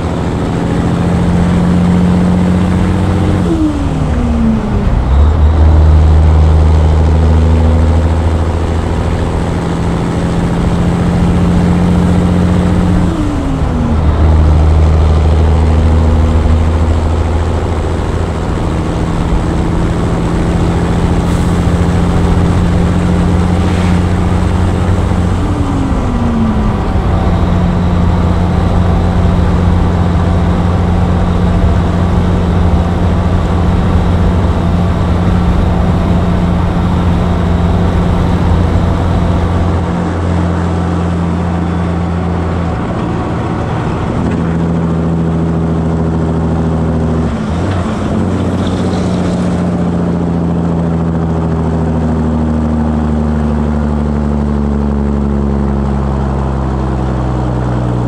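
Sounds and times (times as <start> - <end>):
truck diesel engine droning: 0.0 - 58.0.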